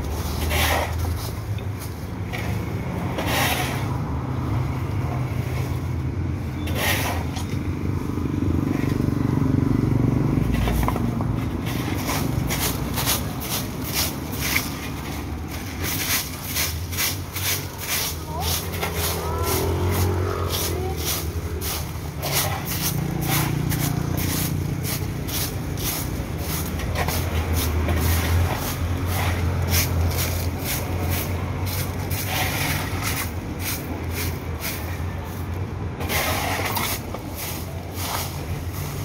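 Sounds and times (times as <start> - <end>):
stick broom sweeping dry leaves: 0.0 - 4.0, 10.5 - 39.0.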